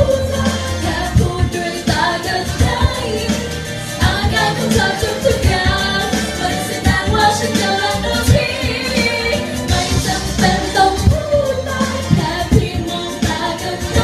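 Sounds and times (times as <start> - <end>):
backing track with drums: 0.0 - 14.0
girl singing pop song: 0.0 - 14.0.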